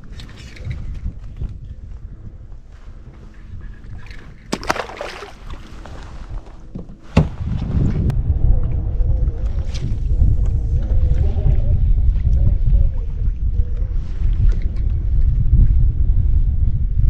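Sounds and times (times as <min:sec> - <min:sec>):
water around kayak: 0:00.0 - 0:17.0
wind rumbling on microphone: 0:00.0 - 0:17.0.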